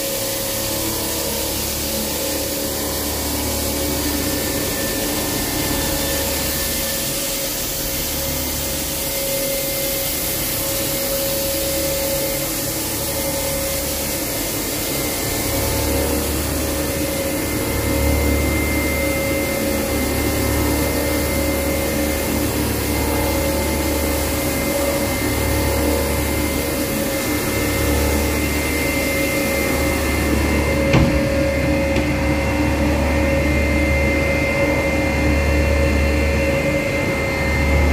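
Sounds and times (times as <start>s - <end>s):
coolant hiss: 0.0s - 33.3s
milling machine spindle whining: 0.0s - 37.9s.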